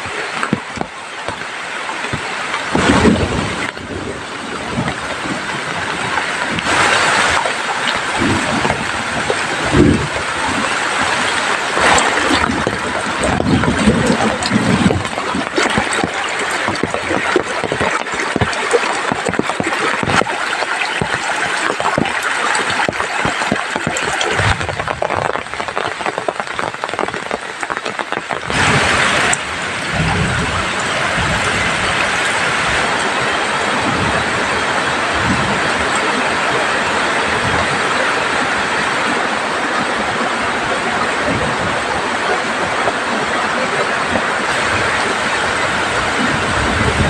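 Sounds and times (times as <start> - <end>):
fast-flowing river rushing: 0.0 - 47.0
heavy rain: 0.0 - 47.0
raindrops ticking on a surface: 0.0 - 47.0.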